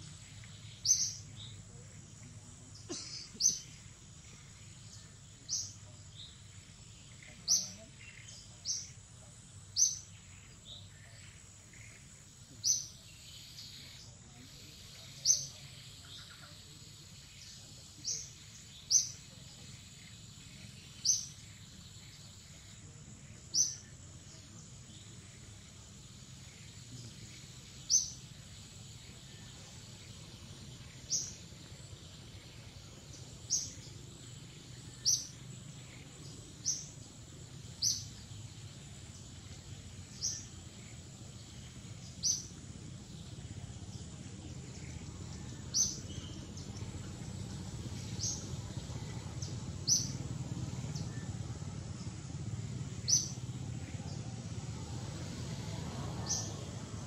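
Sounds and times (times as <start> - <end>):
bird chirping: 0.0 - 57.0
low background noise: 0.0 - 57.0.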